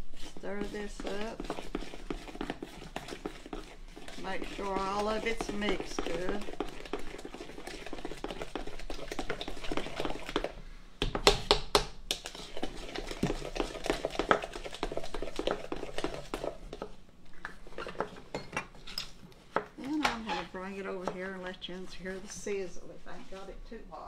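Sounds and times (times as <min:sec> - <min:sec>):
spoon stirring batter in a bowl: 0:00.0 - 0:23.6.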